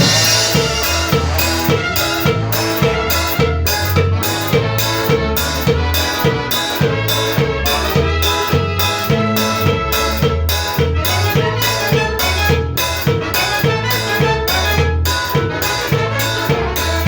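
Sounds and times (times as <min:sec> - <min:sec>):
band playing tropical music: 0:00.0 - 0:17.0
bass line: 0:00.0 - 0:17.0
drum beat: 0:00.0 - 0:17.0.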